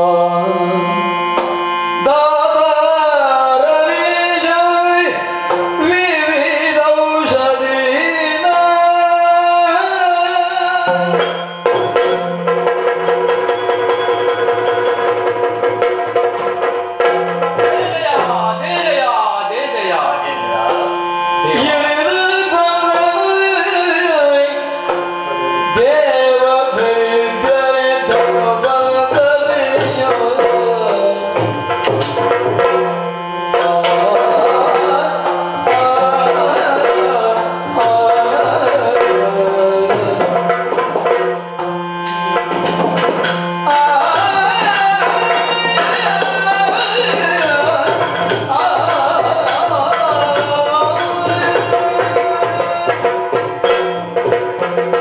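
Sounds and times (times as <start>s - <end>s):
hand drums: 0.7s - 55.0s.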